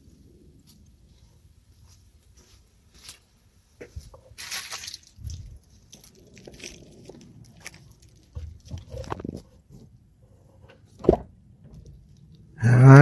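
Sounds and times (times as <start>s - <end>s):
scuffing and handling noises: 0.1s - 11.0s.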